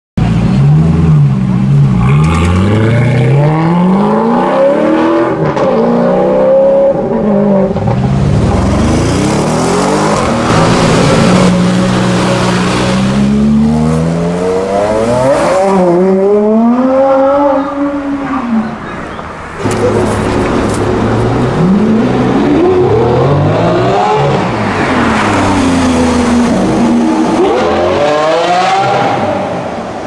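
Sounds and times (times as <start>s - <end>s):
car engines revving and accelerating: 0.2s - 30.0s.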